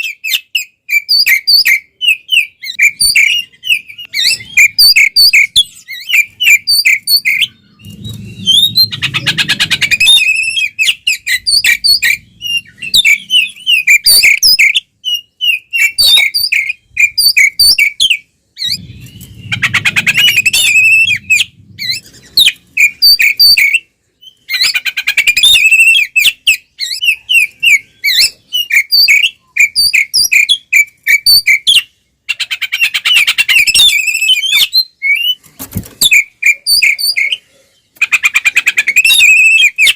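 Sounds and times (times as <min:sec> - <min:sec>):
bird singing whistled notes: 0:00.0 - 0:31.9, 0:32.8 - 0:35.4, 0:36.0 - 0:37.5, 0:38.8 - 0:39.9.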